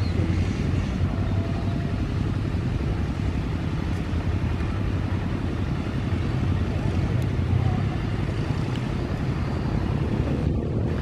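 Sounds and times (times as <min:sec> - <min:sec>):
jet engines idling: 0:00.0 - 0:11.0.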